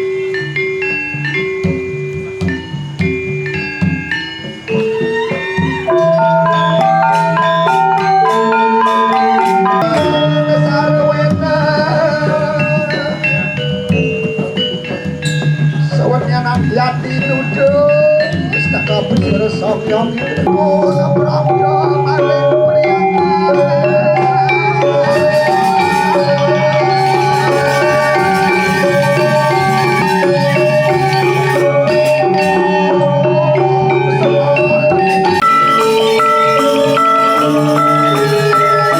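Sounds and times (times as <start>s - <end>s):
clashing percussion: 0.0s - 38.9s
metallophones ringing runs: 0.0s - 38.9s
wavering held melodic line: 0.0s - 38.9s.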